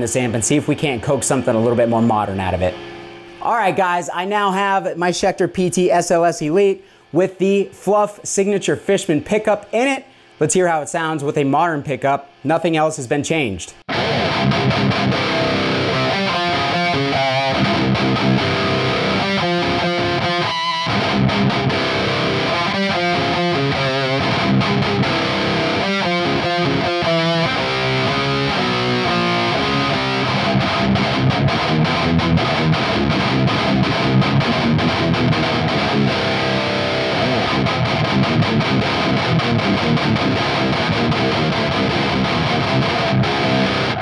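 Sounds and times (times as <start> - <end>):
distorted electric guitar riffs: 0.0 - 5.3, 6.0 - 44.0.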